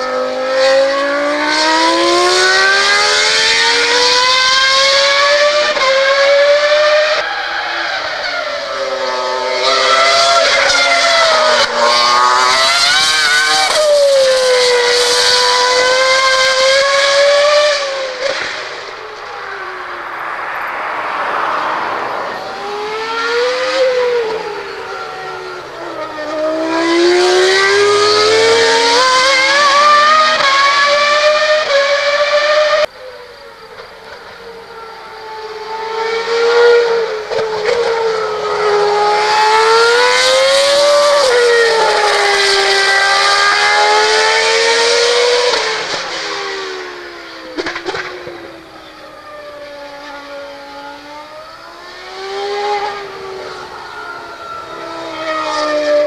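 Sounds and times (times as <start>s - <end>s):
racing car engine at high revs: 0.0s - 56.0s.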